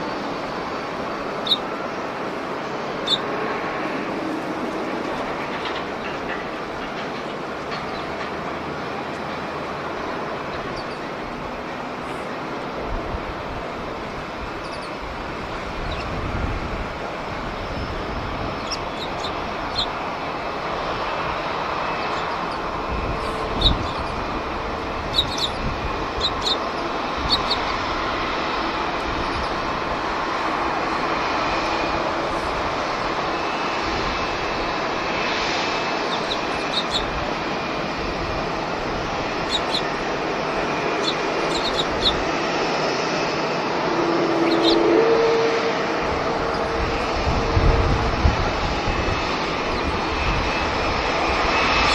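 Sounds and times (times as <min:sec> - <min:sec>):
distant jet engines: 0:00.0 - 0:51.9.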